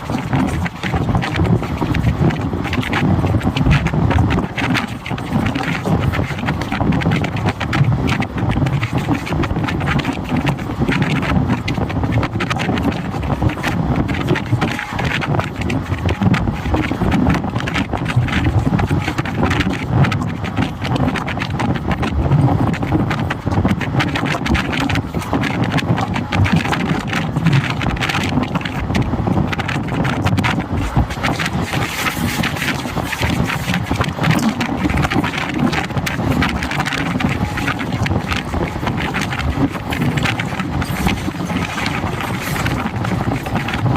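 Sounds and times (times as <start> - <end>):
train rumbling on track: 0.0 - 43.9
wheels and carriage rattling: 0.0 - 43.9.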